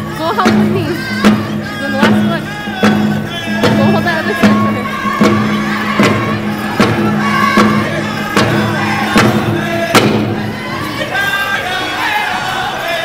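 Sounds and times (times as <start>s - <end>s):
hand drums beating: 0.0s - 10.8s
group of voices singing: 0.0s - 13.0s.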